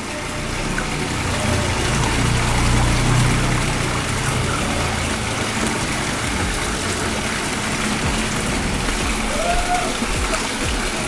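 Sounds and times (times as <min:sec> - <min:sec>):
water running into pond: 0:00.0 - 0:11.0.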